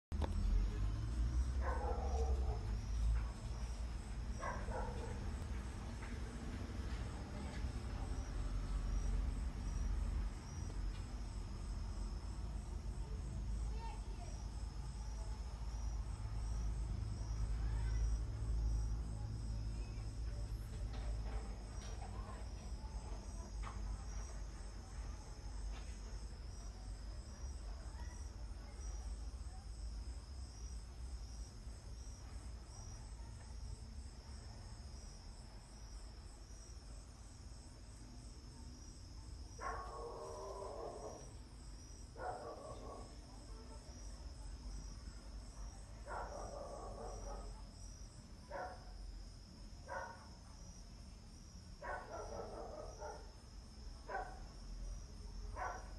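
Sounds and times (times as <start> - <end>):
insects chirping: 0.2 - 55.9.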